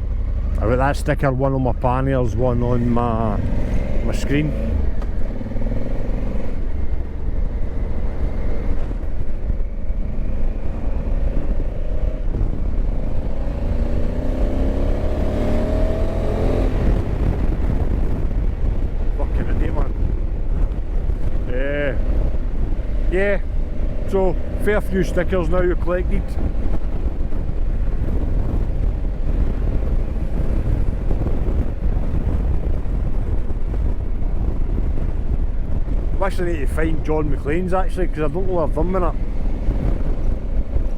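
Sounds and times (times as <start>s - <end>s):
motorcycle engine accelerating: 0.0s - 1.1s, 2.0s - 40.9s
wind rumble on microphone: 0.0s - 40.9s.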